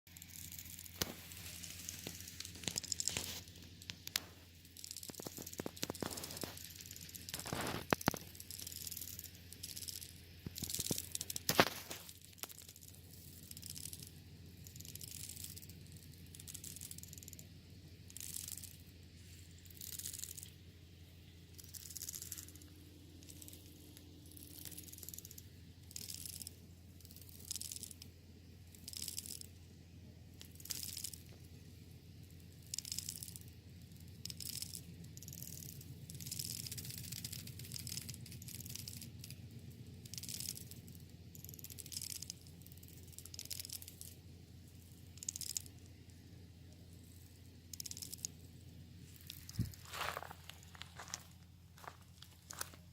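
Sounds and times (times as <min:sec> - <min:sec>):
faint steady hum: 0:00.1 - 0:52.9
termites rattling: 0:00.1 - 0:52.9.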